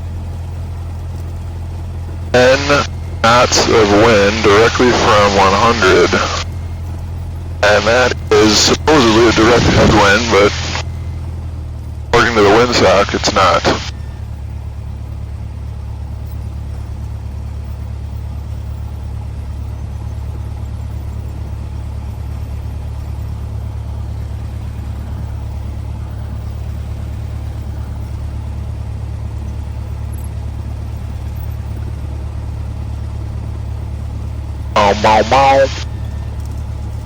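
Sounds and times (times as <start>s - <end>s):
propeller plane engine drone: 0.0s - 37.0s.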